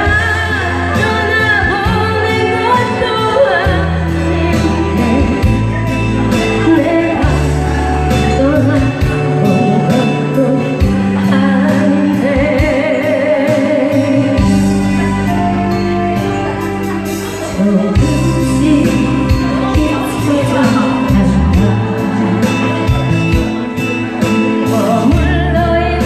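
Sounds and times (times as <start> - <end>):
beat and bass line: 0.0 - 26.0
lead melody: 0.0 - 26.0.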